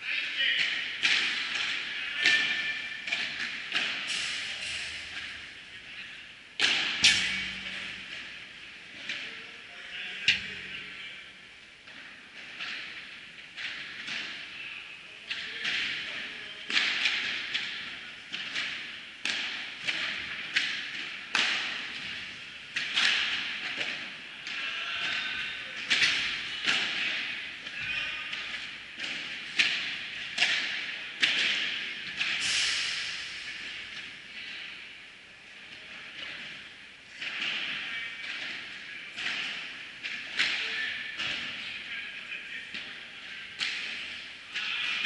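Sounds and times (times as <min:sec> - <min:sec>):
rackets hitting ball with echo: 0:00.2 - 0:45.0.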